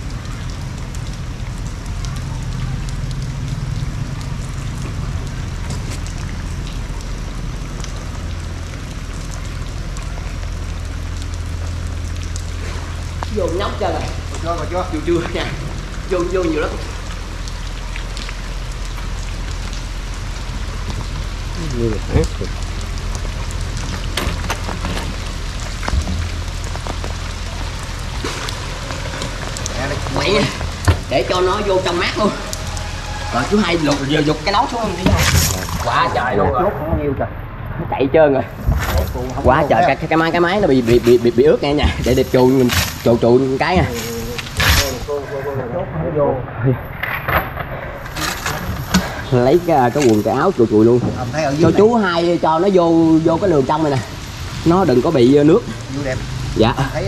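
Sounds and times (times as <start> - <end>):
raindrops ticking: 0.0 - 46.0, 46.7 - 57.0
low steady hum: 0.0 - 55.9
heavy rain: 0.0 - 57.0.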